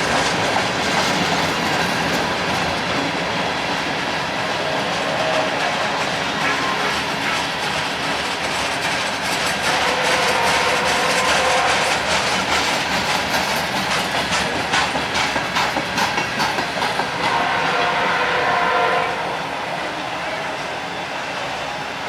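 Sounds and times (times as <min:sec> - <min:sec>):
train wheels clicking over rail joints: 0:00.0 - 0:20.0.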